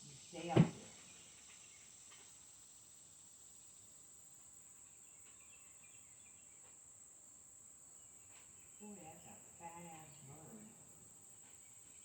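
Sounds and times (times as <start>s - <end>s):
high-pitched drone of insects: 0.0s - 12.0s.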